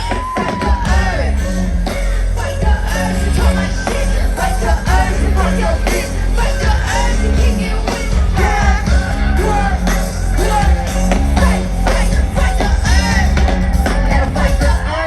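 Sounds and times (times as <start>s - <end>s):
heavy pulsing bass beat: 0.0s - 15.0s
rapping vocals: 0.0s - 15.0s.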